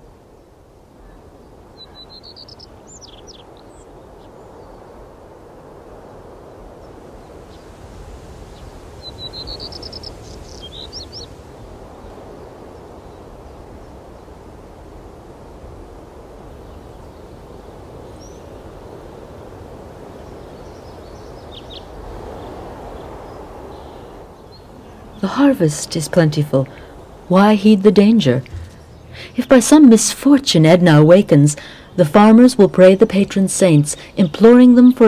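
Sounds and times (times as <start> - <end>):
outdoor background hiss: 0.0 - 35.0
small birds chirping: 1.0 - 5.1, 8.5 - 14.4, 16.5 - 35.0.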